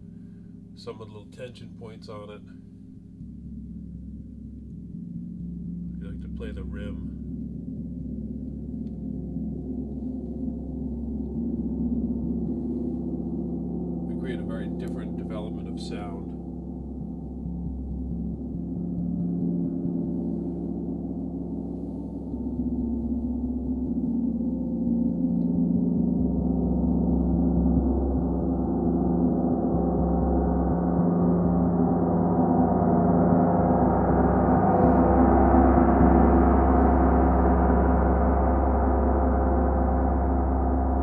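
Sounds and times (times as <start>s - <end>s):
gong shimmering wash: 7.2s - 41.0s.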